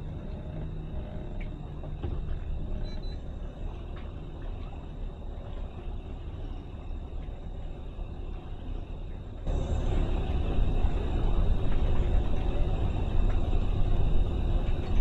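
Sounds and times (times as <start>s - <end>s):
outboard engines rumbling: 0.0s - 15.0s.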